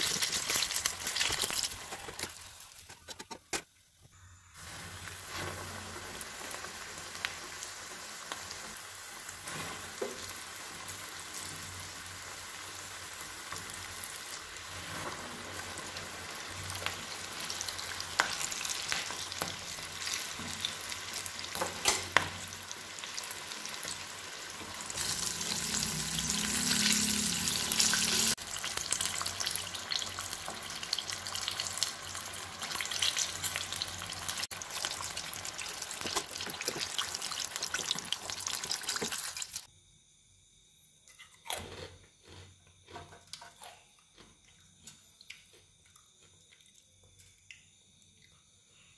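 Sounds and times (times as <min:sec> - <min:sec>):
chicken deep-frying in oil: 0:00.0 - 0:39.7.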